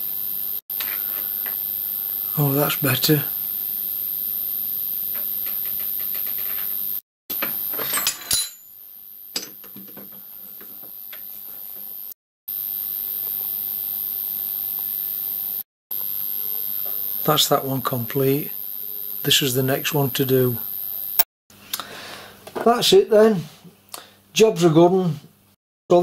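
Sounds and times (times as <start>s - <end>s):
thin high whine: 0.0s - 21.3s.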